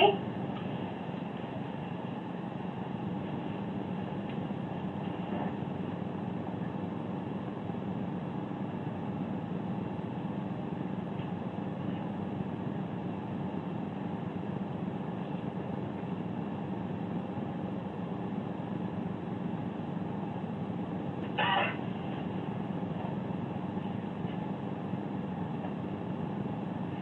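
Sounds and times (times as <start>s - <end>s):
low hum with hiss: 0.0s - 27.0s.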